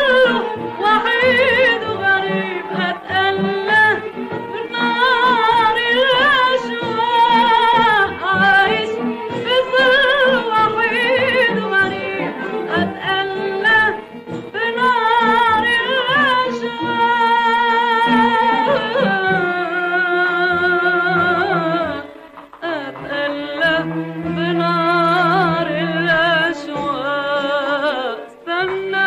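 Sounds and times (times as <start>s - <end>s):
instrumental accompaniment: 0.0s - 29.0s
woman singing with vibrato: 0.0s - 29.0s.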